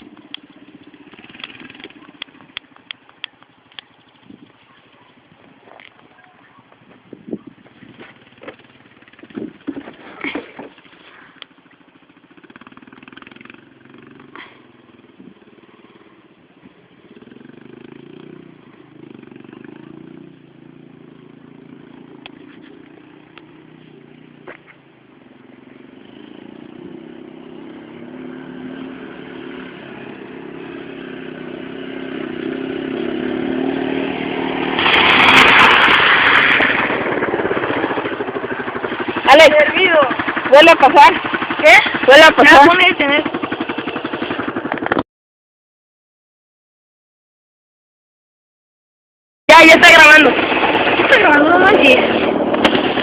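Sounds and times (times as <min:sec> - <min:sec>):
motorcycle engine passing by: 0:00.0 - 0:45.0, 0:49.5 - 0:53.0.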